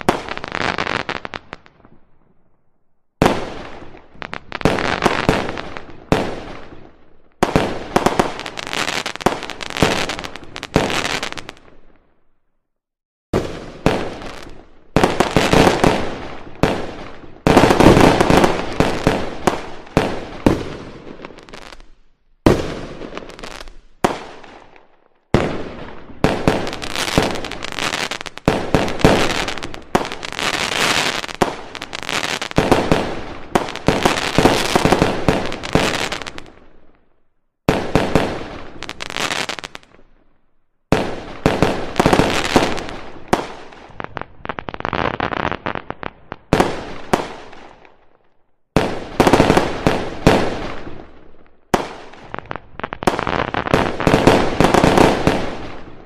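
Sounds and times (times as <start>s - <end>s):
fireworks bursting with crackle: 0.0s - 12.3s, 13.4s - 56.0s.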